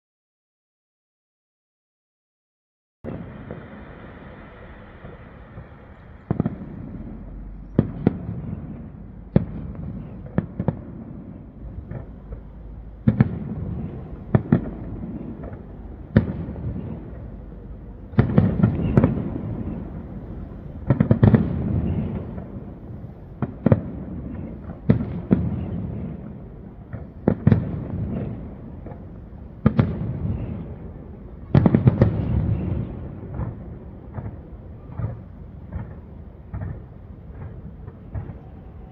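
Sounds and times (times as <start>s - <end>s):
fireworks bursting with echo: 3.0s - 38.9s.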